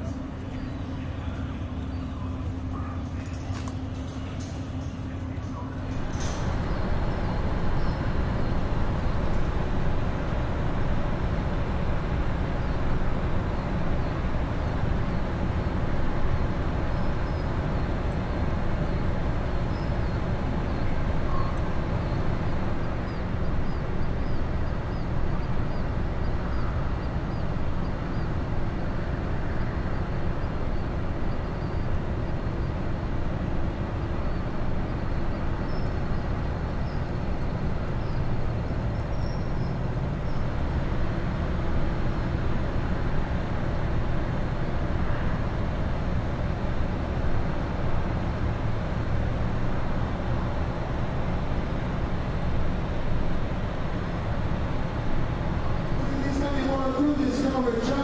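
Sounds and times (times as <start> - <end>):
low rumble of a ship: 0.0 - 58.0.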